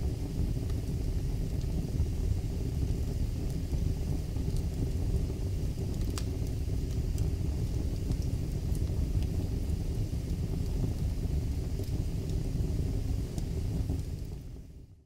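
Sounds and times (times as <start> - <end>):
fire crackling and popping: 0.0 - 14.9
fire rumbling: 0.0 - 15.0.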